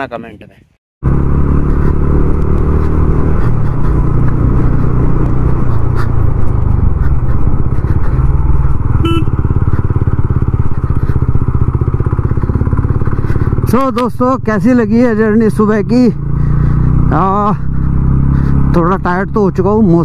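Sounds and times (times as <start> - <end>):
motorcycle engine running: 1.0 - 20.0.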